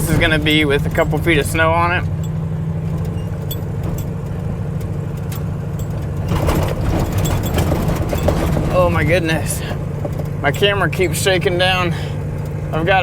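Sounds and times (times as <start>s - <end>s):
truck engine and road rumble: 0.0s - 13.0s
truck rattling and shaking: 0.0s - 13.0s.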